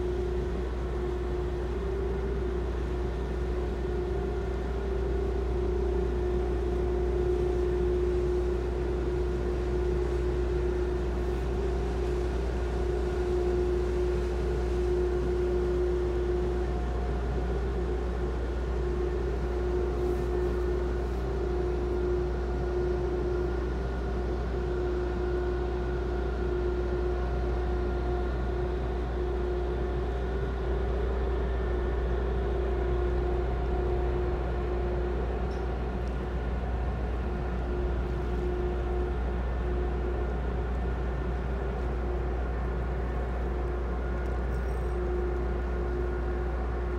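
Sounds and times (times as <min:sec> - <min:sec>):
ship engines droning: 0:00.0 - 0:46.9.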